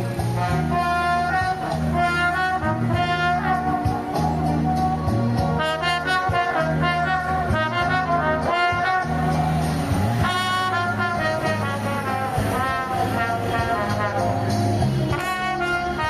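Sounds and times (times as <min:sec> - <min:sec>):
low bass line: 0:00.0 - 0:16.0
solo trumpet melody: 0:00.1 - 0:16.0.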